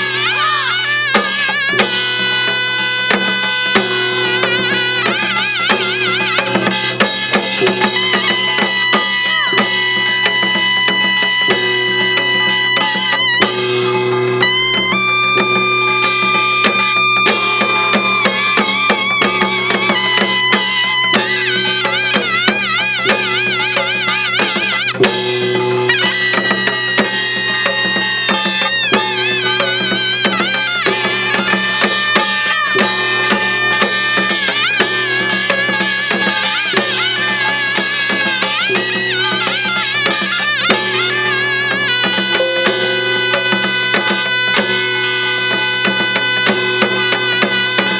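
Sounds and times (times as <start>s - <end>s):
drum strokes: 0.0s - 47.9s
reedy wind melody: 0.0s - 47.9s.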